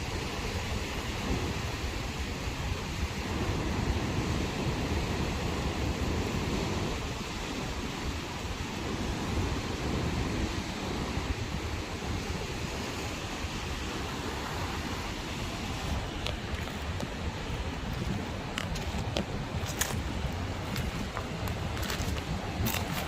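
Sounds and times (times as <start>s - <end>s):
sea waves on shore: 0.0s - 23.0s
wind rumbling on microphone: 0.0s - 23.0s.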